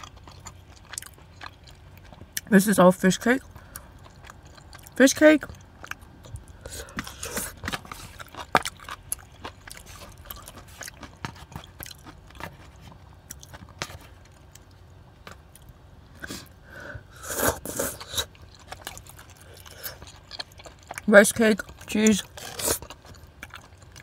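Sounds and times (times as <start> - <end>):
chewing with wet clicks: 0.0 - 2.6, 3.3 - 16.3, 17.7 - 24.0.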